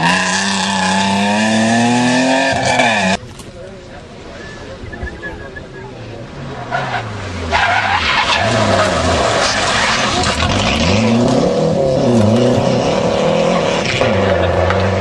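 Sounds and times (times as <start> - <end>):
rally car engine revving: 0.0 - 3.2, 6.1 - 15.0.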